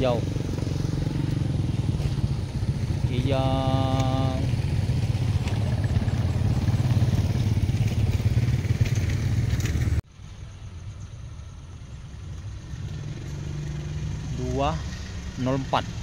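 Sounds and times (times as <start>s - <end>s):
distant locomotive engine hum: 0.0s - 16.0s.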